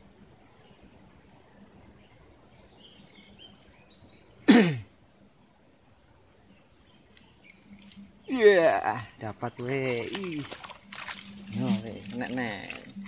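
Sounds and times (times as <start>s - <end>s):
faint riverside background: 0.0s - 13.0s.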